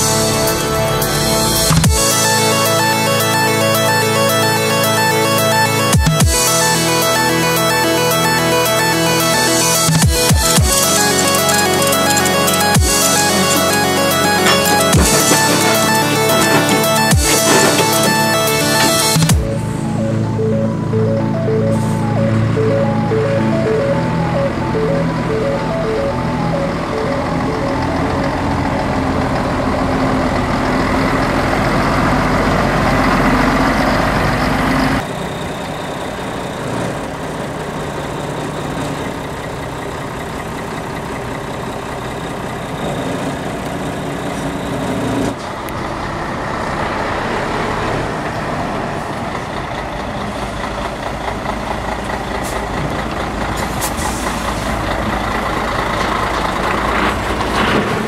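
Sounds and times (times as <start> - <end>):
diesel truck engines idling: 0.0 - 58.0.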